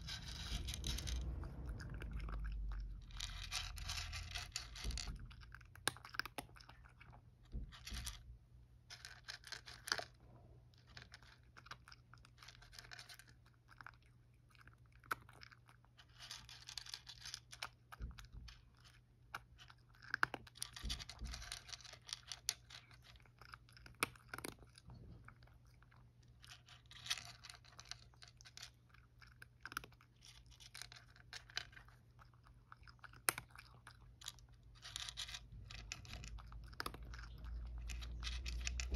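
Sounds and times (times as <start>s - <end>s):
cat crunching dry kibble: 0.0s - 8.2s, 8.8s - 38.9s.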